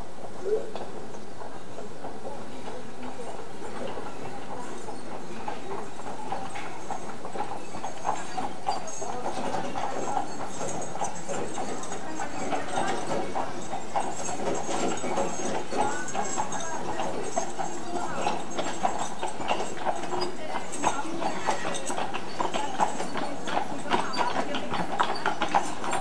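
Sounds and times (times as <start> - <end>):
horse hooves clip-clopping: 0.0 - 26.0
wagon wheels rattling: 0.0 - 26.0.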